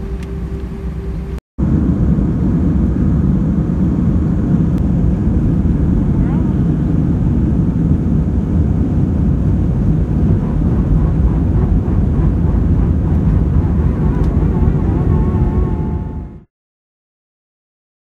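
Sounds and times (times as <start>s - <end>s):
faint whine: 0.0s - 16.5s
jet engines rumbling: 0.0s - 16.5s.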